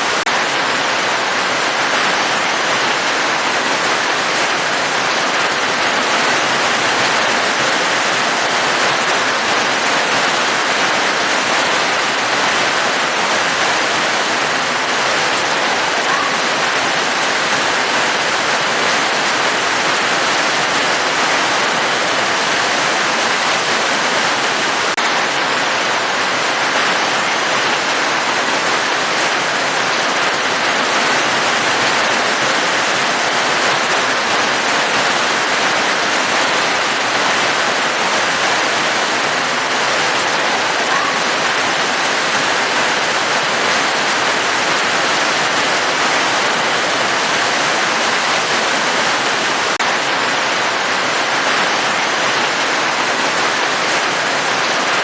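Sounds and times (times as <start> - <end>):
heavy rain hiss: 0.0 - 55.0.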